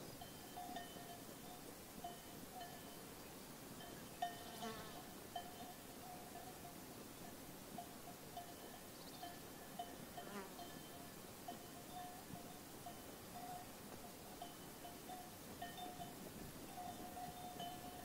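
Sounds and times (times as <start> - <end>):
sheep bells tinkling: 0.0 - 18.0.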